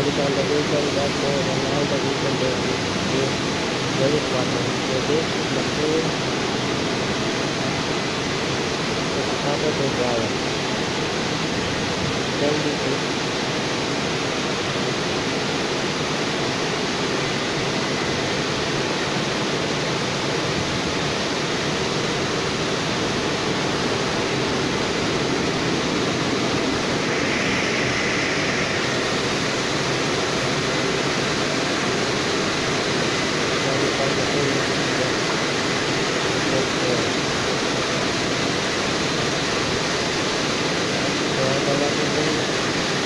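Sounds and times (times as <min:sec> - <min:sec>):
car wash dryer blowers: 0:00.0 - 0:43.0.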